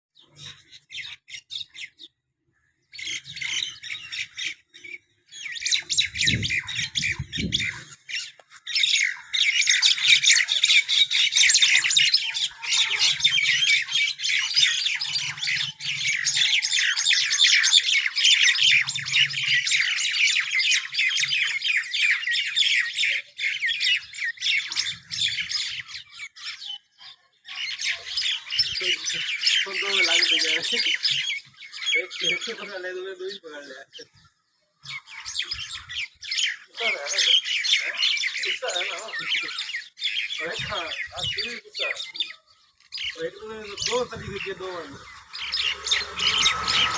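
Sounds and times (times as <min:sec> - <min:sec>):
birds squawking harshly: 0:00.2 - 0:46.9.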